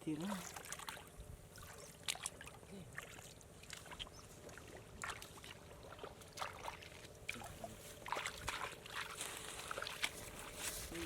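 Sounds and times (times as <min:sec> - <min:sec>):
shallow water splashing: 0:00.1 - 0:11.0.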